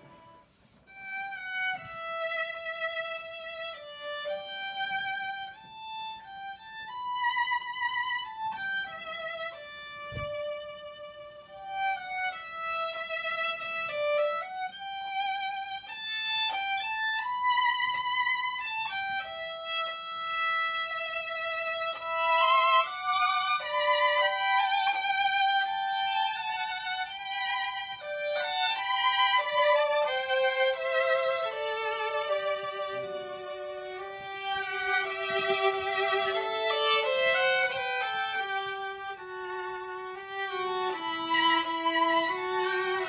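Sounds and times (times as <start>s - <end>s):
violin duet: 0.0s - 43.0s.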